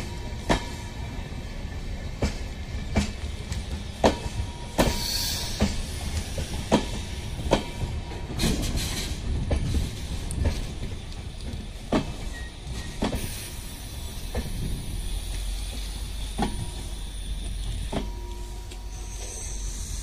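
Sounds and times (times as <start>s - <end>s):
train cars rumbling past: 0.0s - 20.0s.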